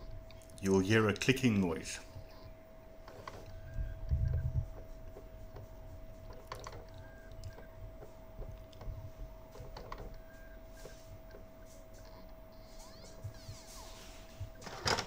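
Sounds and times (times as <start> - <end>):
disc drive hum: 0.0 - 15.0.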